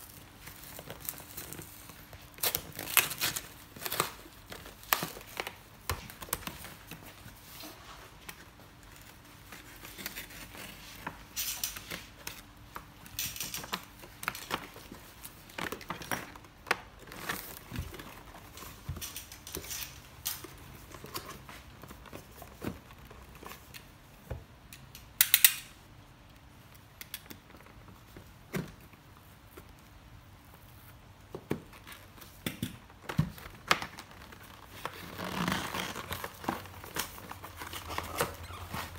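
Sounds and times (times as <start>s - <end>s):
cardboard crackle: 0.0s - 23.9s, 30.6s - 38.9s
cardboard and plastic rustling: 0.0s - 24.6s, 27.3s - 38.9s.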